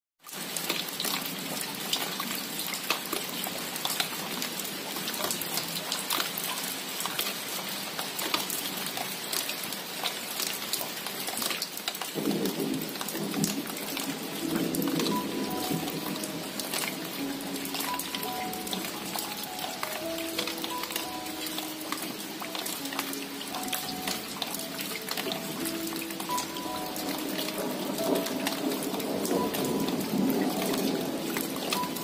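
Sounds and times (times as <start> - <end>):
rain falling on leaves: 0.2 - 32.0
low sound under rain: 0.3 - 32.0.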